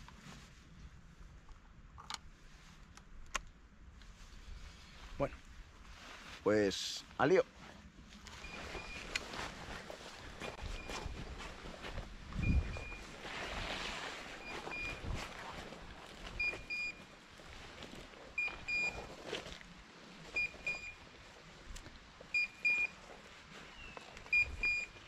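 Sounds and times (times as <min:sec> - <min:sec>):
footsteps rustling through brush: 0:04.0 - 0:25.0.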